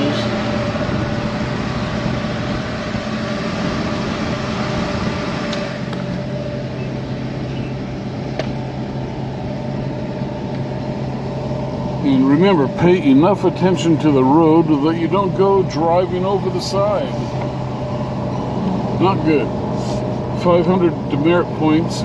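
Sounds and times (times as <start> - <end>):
engine hum: 0.0 - 22.0
tyre and road noise: 0.0 - 22.0.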